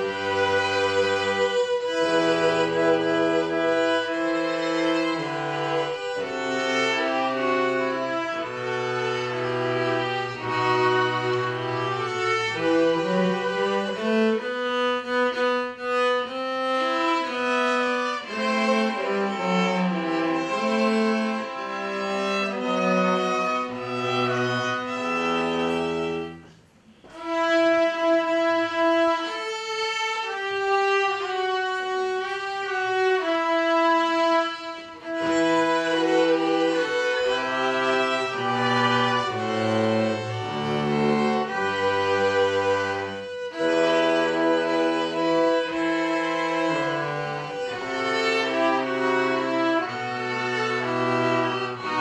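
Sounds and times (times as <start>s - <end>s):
string ensemble playing: 0.0s - 52.0s.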